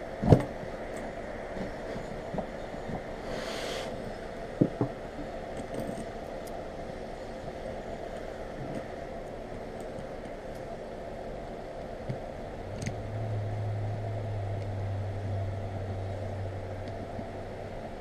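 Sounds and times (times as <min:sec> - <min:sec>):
low steady drone: 0:00.0 - 0:18.0
mechanical hum: 0:00.0 - 0:18.0.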